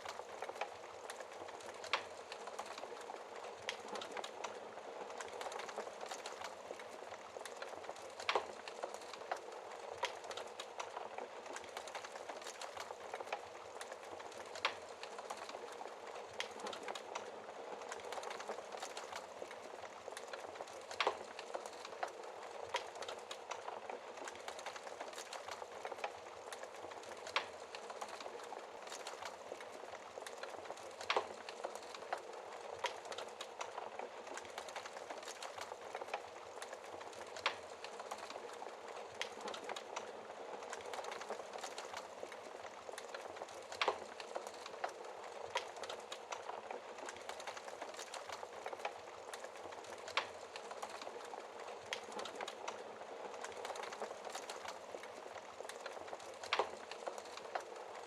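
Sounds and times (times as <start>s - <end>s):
fire popping: 0.0s - 58.0s
log fire hissing and crackling: 0.0s - 58.0s.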